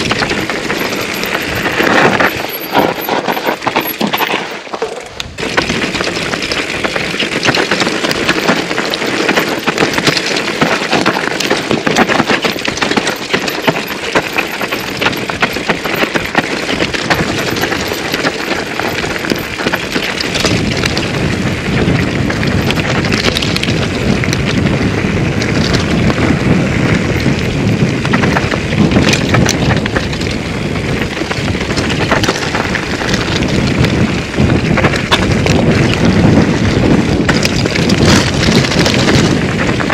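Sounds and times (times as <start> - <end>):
wind buffeting microphone: 0.0 - 4.4, 5.1 - 39.9
bike rattling over stones: 0.0 - 39.9.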